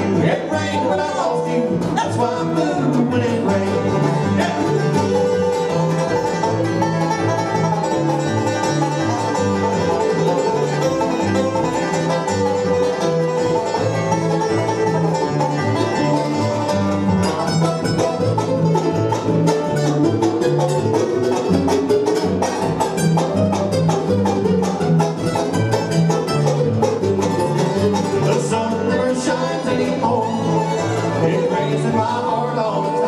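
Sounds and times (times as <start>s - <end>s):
banjo picking: 0.0s - 33.0s
bass line: 0.0s - 33.0s
guitar picking: 0.0s - 33.0s.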